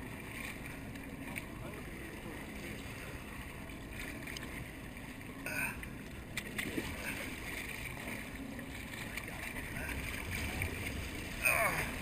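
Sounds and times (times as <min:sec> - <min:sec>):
water rushing along boat hull: 0:00.0 - 0:12.0.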